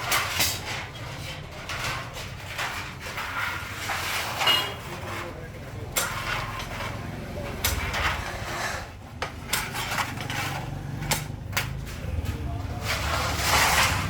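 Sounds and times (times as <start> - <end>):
metal knocks and clanks: 0.0 - 14.0.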